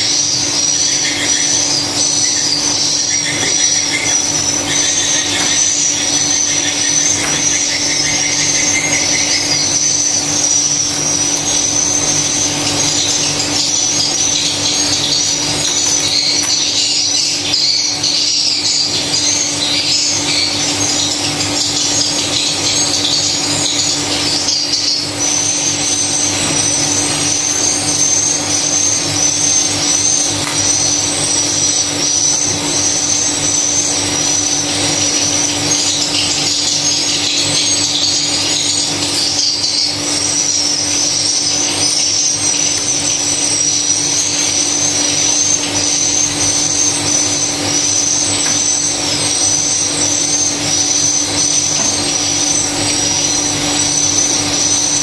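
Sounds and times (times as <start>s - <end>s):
swiftlets twittering: 0.0s - 55.0s.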